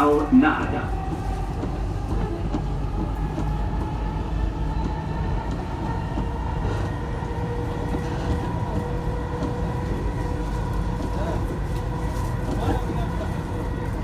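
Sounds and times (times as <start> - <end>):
metro carriage rumble: 0.0 - 14.0.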